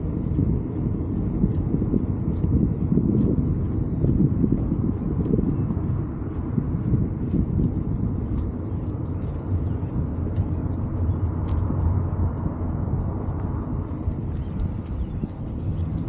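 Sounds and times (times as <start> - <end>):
bicycle road noise: 0.0 - 16.0
wind noise on microphone: 0.0 - 16.0.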